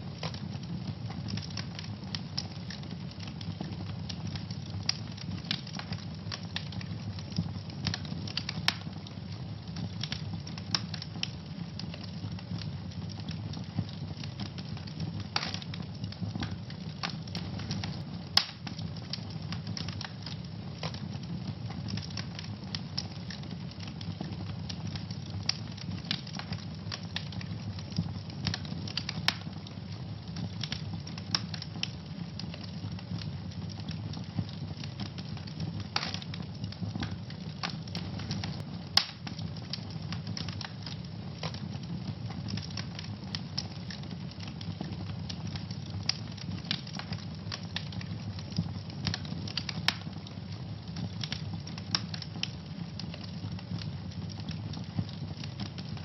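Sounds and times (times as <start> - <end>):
fire burning with low rush: 0.0 - 56.0
fire crackling and popping: 0.0 - 56.0.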